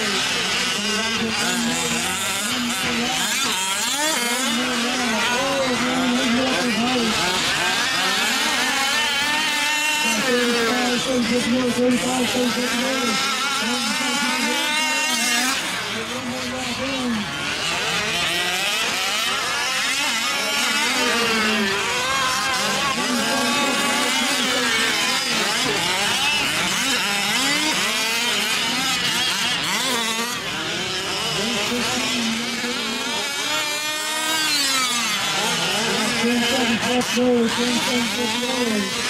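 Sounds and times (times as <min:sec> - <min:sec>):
small two-stroke engines revving: 0:00.0 - 0:39.0.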